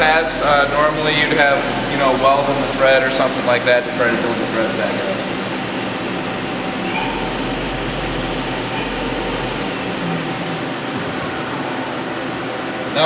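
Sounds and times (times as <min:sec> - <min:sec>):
low hum: 0:00.0 - 0:12.6
lathe machine noise: 0:00.0 - 0:13.0.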